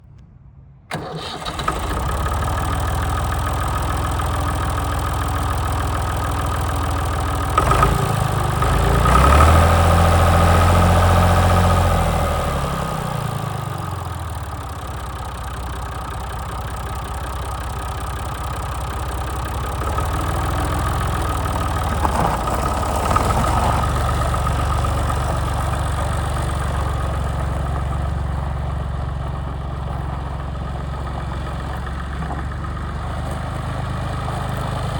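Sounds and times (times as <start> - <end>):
tractor engine idling and revving: 0.9 - 34.9.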